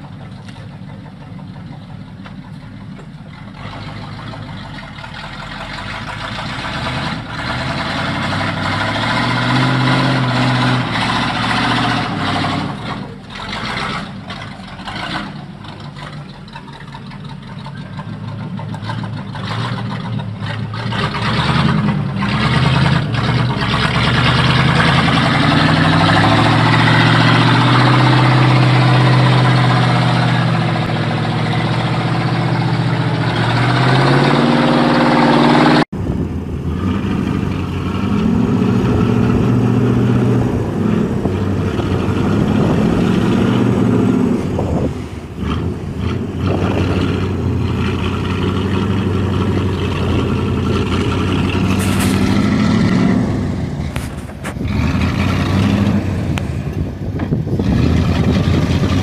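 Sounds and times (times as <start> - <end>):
second truck engine revving: 0.0 - 59.0
truck engine revving: 0.0 - 59.0.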